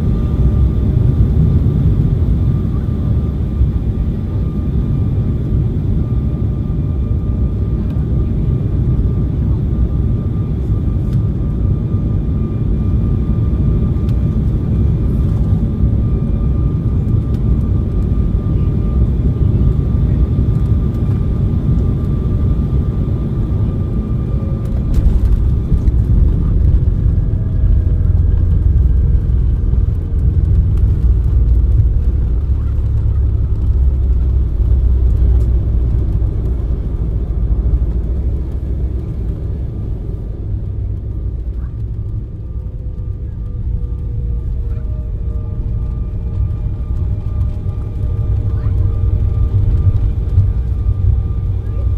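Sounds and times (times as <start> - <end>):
airliner engine rumble and whine: 0.0 - 51.9.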